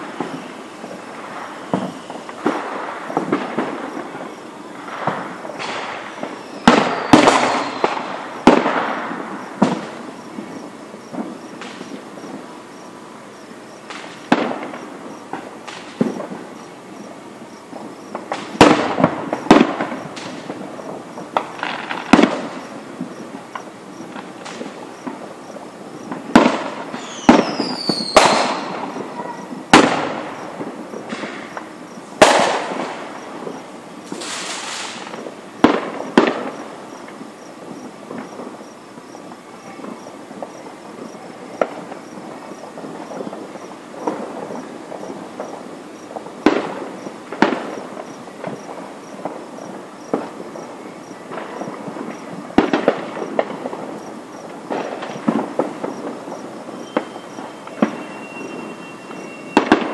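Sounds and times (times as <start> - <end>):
firework hissing burst: 0.0 - 39.3, 40.5 - 59.9
firework bangs: 0.0 - 59.9
firework crackling: 0.0 - 59.9.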